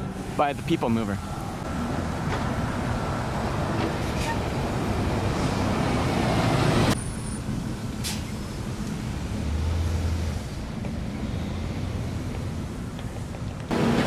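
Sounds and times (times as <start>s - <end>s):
low traffic rumble: 0.0s - 14.0s
road traffic rush: 0.0s - 14.0s.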